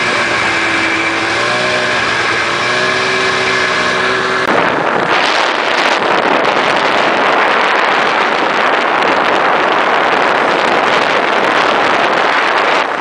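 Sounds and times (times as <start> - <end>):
snowmobile engine running: 0.0 - 13.0
wind rushing over microphone: 0.0 - 13.0.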